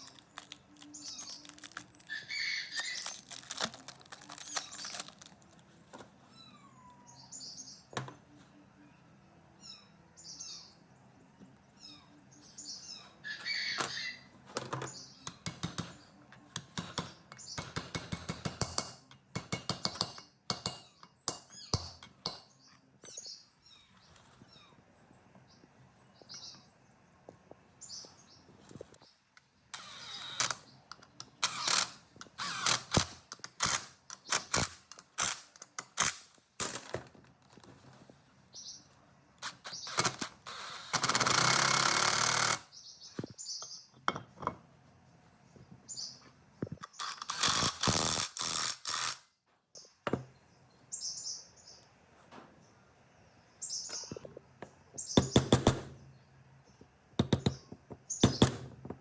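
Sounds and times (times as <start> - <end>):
faint birds chirping: 0.0 - 36.5, 37.2 - 48.5, 49.5 - 59.0.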